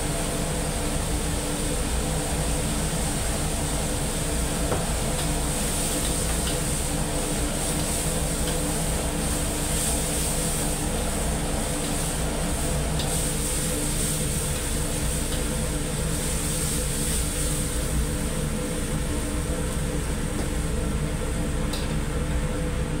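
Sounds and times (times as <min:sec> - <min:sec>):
wok stove and ventilation drone: 0:00.0 - 0:23.0.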